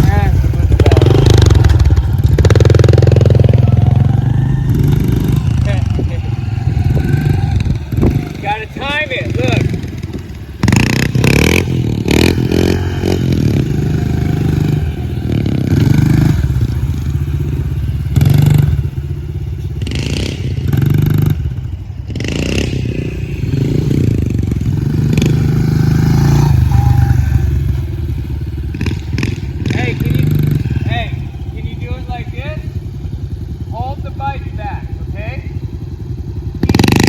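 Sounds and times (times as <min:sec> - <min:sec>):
pit bike engine revving: 0:00.0 - 0:37.0.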